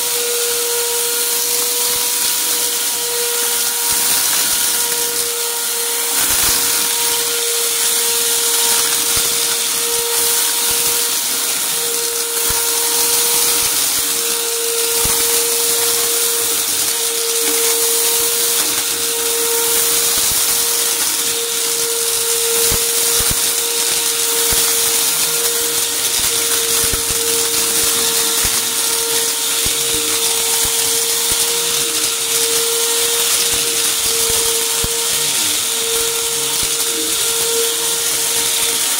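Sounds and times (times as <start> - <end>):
vacuum cleaner motor whine: 0.0 - 38.9
debris crunching in vacuum: 1.5 - 38.9.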